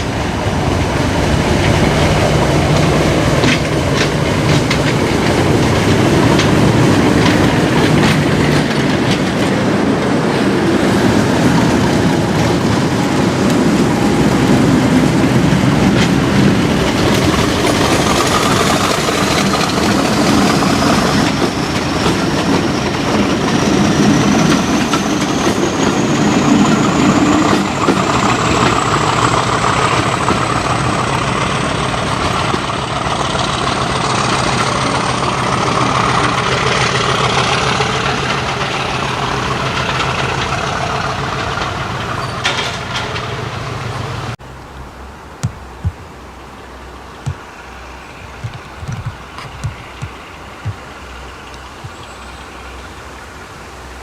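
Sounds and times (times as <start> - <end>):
diesel locomotive engine running: 0.0 - 44.6, 47.3 - 54.0.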